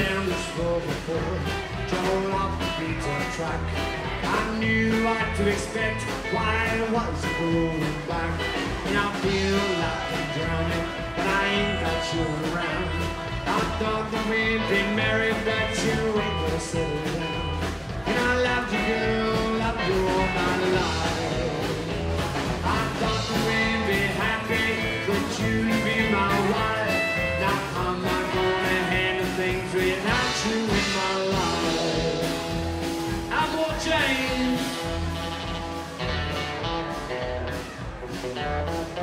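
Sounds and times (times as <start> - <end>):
drum kit steady beat: 0.0 - 39.0
electric and acoustic guitars: 0.0 - 39.0
upright bass: 0.0 - 39.0.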